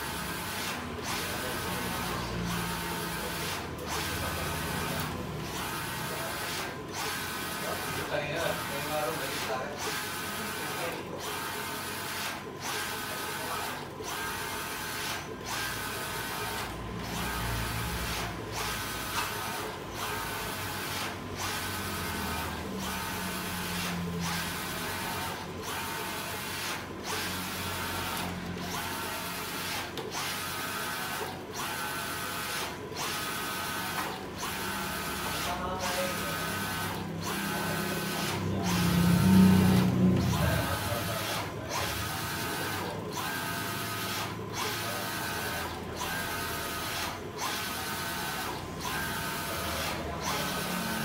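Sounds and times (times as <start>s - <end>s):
inkjet printer carriage whine: 0.0s - 51.0s.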